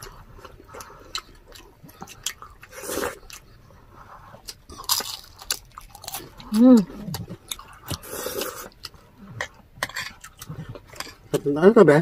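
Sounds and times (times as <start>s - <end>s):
chewing crispy fried food: 0.0s - 11.4s.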